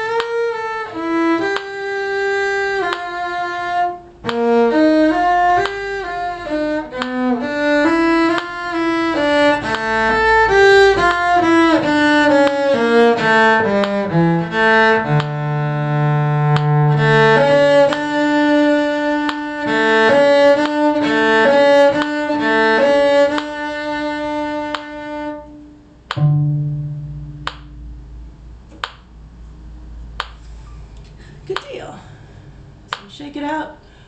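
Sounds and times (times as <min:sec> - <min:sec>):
cello playing slow melody: 0:00.0 - 0:28.8
low cello note ringing: 0:00.0 - 0:31.0.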